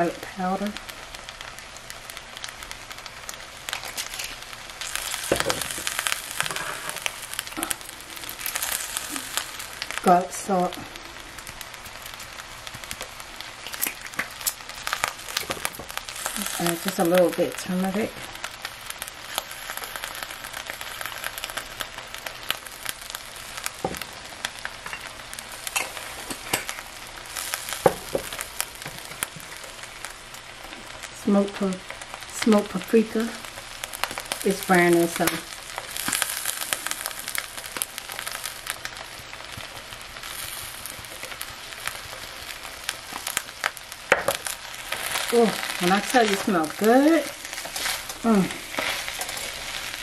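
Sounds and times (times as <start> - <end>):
fried rice sizzling in a skillet: 0.0 - 50.0.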